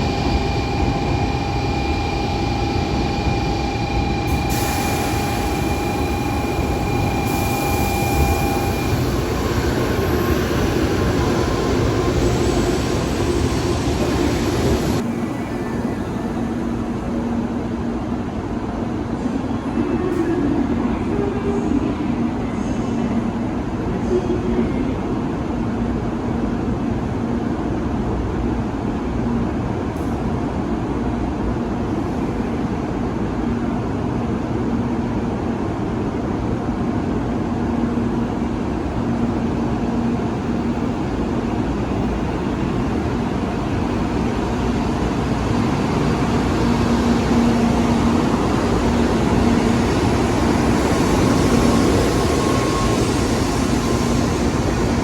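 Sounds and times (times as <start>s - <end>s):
railway equipment rumble and hum: 0.0s - 55.0s.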